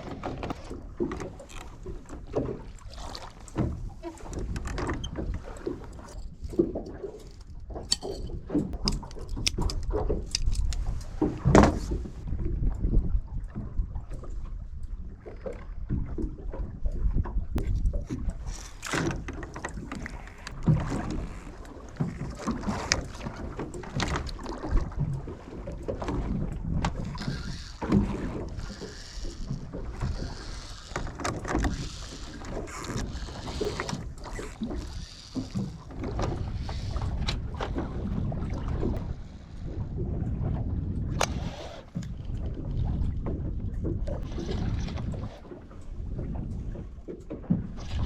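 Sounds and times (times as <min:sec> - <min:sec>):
boat low rumble: 0:00.0 - 0:48.0
wind on microphone: 0:00.0 - 0:48.0.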